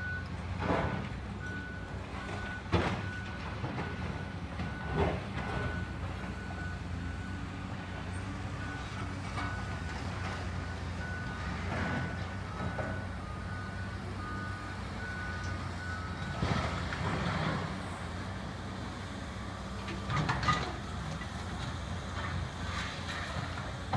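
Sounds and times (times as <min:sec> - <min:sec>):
diesel engines humming: 0:00.0 - 0:23.9.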